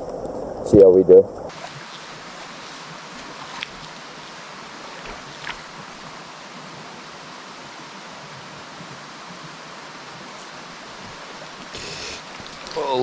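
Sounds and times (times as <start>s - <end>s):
stream flowing over rocks: 1.4s - 13.0s.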